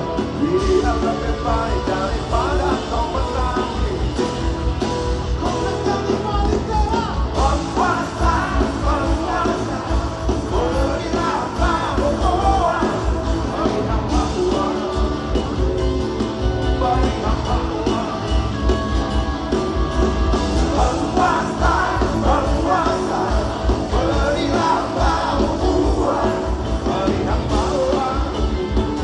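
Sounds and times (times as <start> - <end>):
live rock band playing: 0.0 - 29.0
person singing: 0.0 - 29.0.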